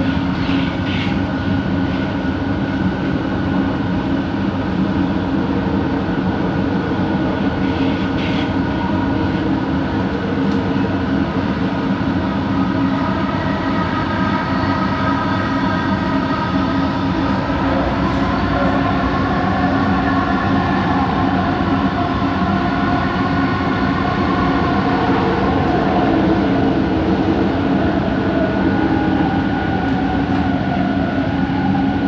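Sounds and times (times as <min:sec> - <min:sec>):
train running at speed: 0:00.0 - 0:32.0.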